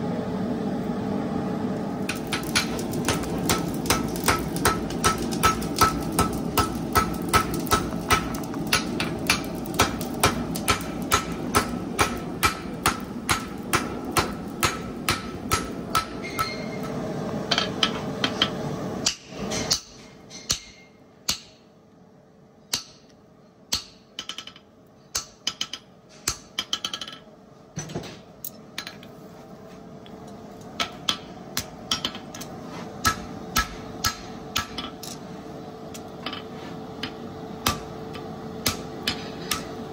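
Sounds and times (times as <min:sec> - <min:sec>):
hammer striking horseshoe on anvil: 0:02.1 - 0:21.6, 0:22.7 - 0:27.2, 0:30.8 - 0:35.2, 0:36.0 - 0:39.8.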